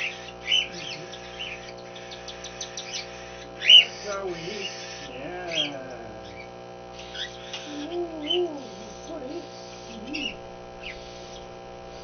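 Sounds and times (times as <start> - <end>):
aquarium electrical hum: 0.0 - 12.0
cockatiels chirping: 0.0 - 12.0.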